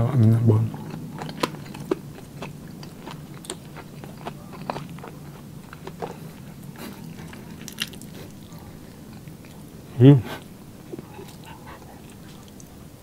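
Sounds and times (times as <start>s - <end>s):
person chewing and biting: 0.7s - 9.7s, 10.4s - 12.8s.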